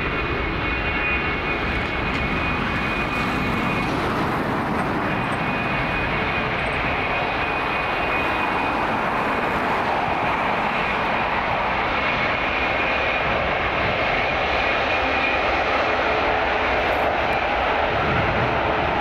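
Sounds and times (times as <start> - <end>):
jet engines taxiing: 0.0 - 19.0.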